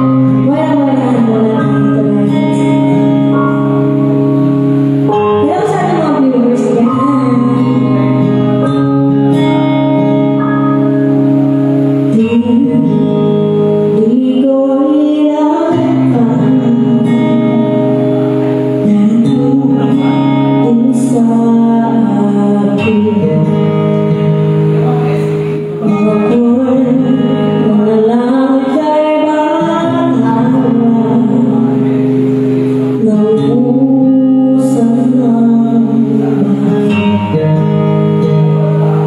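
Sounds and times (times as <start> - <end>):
backing music of held chords: 0.0 - 39.0
woman singing into microphone: 0.0 - 39.0.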